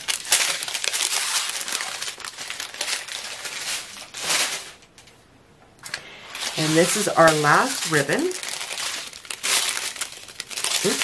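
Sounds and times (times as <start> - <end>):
plastic bags crinkling: 0.0 - 5.2, 5.8 - 11.0.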